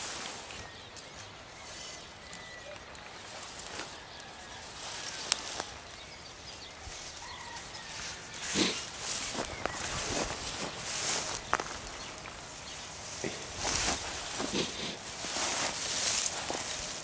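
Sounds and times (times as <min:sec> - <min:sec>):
footsteps in long grass: 0:00.0 - 0:17.0.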